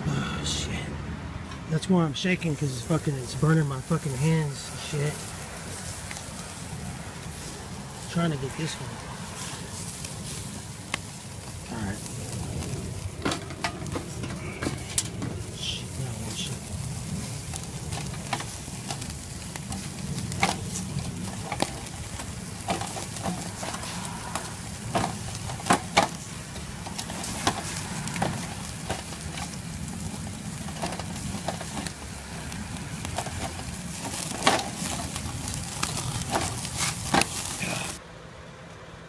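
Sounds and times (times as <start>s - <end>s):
meat sizzling over charcoal: 1.3s - 38.0s
fat crackling and popping: 1.4s - 38.0s.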